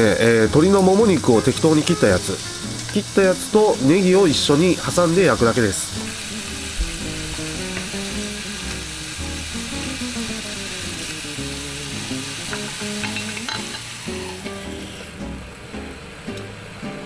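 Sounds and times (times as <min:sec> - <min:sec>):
background music: 0:00.0 - 0:17.0
chicken sizzling: 0:00.0 - 0:17.0.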